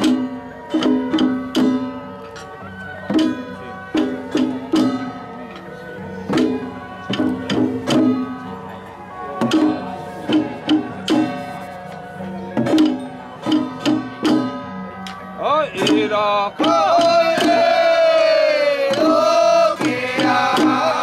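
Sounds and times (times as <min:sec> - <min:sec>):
hand drums struck: 0:00.0 - 0:02.4, 0:03.1 - 0:05.3, 0:06.3 - 0:08.4, 0:09.4 - 0:21.0.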